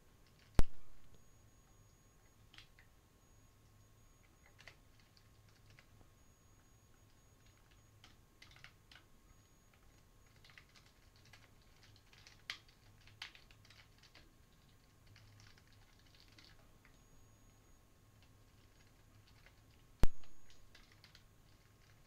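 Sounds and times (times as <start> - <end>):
keyboard typing: 0.2 - 22.0.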